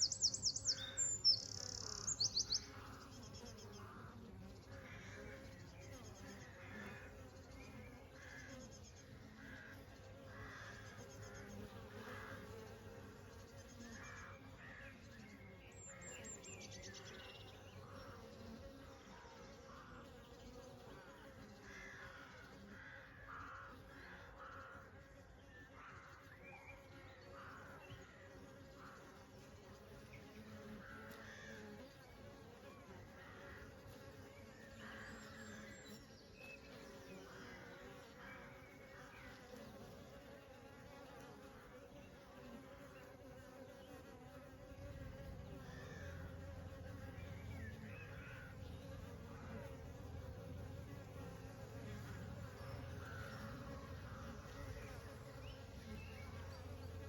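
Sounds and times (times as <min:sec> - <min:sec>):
honey bees buzzing: 0:00.0 - 0:57.0.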